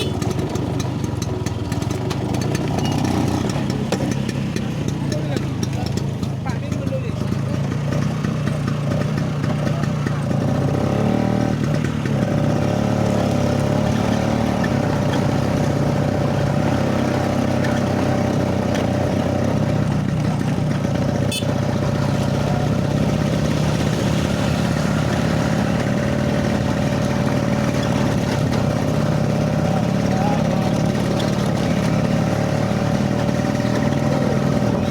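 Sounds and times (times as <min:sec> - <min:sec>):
scooter engine running: 0:00.0 - 0:34.9.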